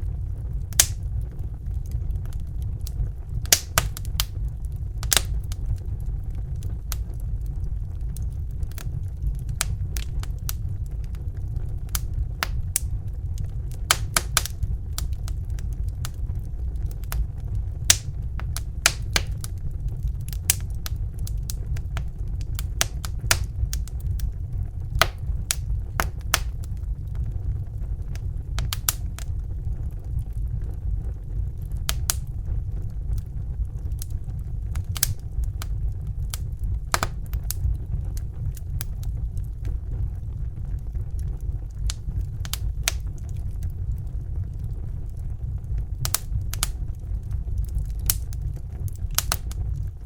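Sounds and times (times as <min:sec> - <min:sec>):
fire crackling and popping: 0:00.0 - 0:50.0.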